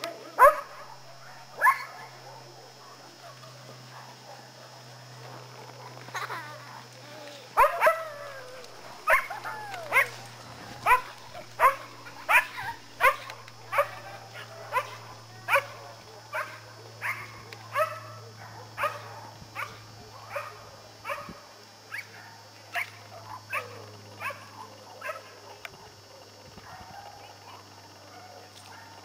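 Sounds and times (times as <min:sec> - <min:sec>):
dog barking: 0:00.4 - 0:05.1, 0:07.6 - 0:27.4, 0:28.0 - 0:29.0.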